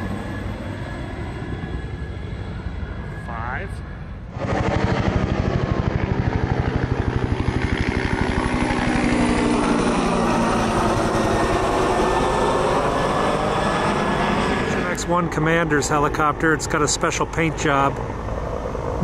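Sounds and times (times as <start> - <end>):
helicopter engine whine: 0.0 - 19.0
helicopter rotor chopping: 0.0 - 19.0.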